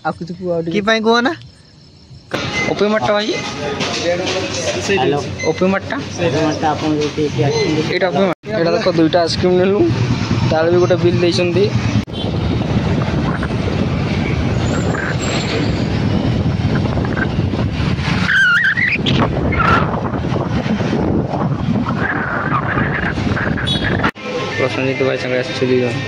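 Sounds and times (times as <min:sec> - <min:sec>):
wind and road roar: 0:00.0 - 0:26.0.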